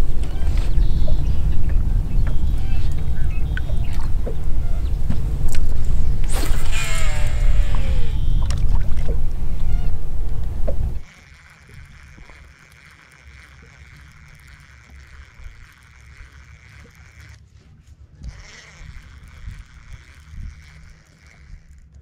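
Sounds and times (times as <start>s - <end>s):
boat motor rumbling: 0.0s - 22.0s
steady hum: 0.0s - 22.0s.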